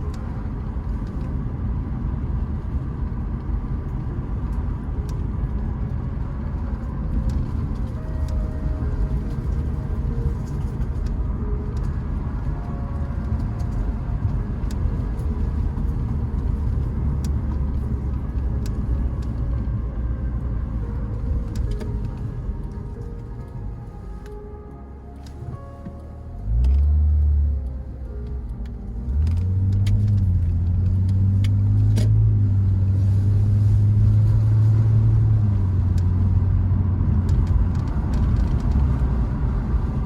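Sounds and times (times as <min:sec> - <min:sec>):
car engine and road noise: 0:00.0 - 0:40.0.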